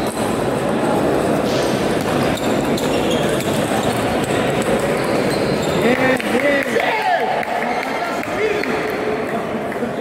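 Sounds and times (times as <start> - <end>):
hubbub of voices and movement: 0.0 - 10.0.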